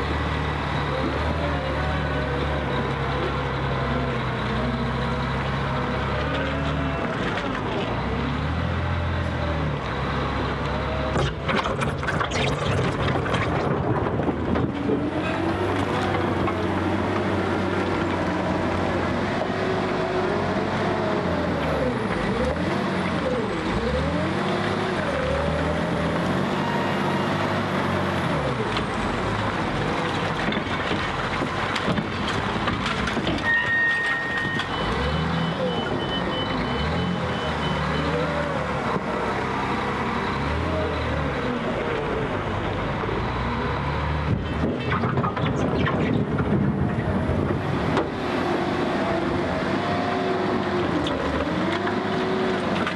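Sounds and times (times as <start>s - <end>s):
diesel loader engine under load: 0.0s - 52.9s.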